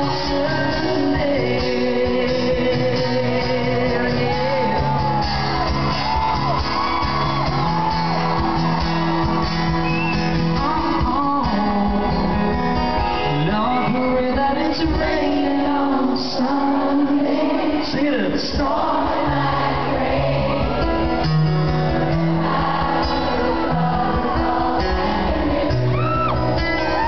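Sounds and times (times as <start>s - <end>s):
crowd shouting and singing: 0.0s - 27.0s
guitar: 0.0s - 27.0s
live country band: 0.0s - 27.0s.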